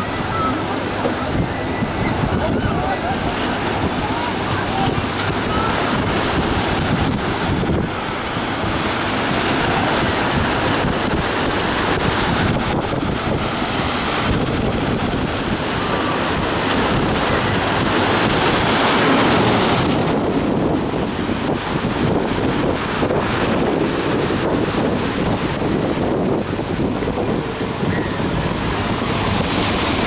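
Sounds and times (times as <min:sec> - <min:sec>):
surf breaking and churning: 0:00.0 - 0:30.0
wind buffeting microphone: 0:00.0 - 0:30.0.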